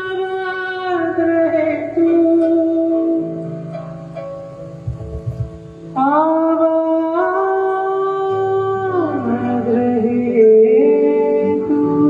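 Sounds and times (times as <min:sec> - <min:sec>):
person singing long notes: 0:00.0 - 0:03.9, 0:05.9 - 0:12.0
instrumental accompaniment: 0:00.0 - 0:12.0.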